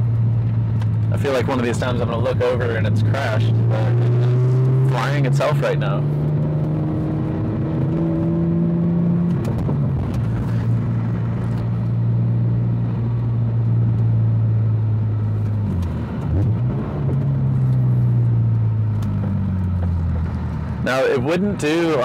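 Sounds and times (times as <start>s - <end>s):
car engine cruising: 0.0s - 22.0s
road noise: 0.0s - 22.0s.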